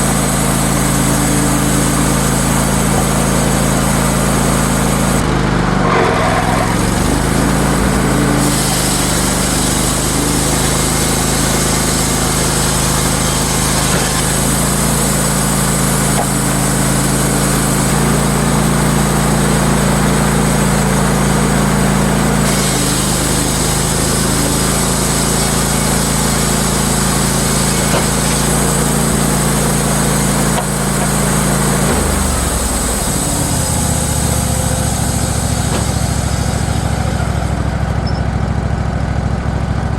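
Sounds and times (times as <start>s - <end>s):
sawmill engine running: 0.0s - 39.9s
band blade cutting timber: 0.6s - 19.5s, 22.4s - 36.7s.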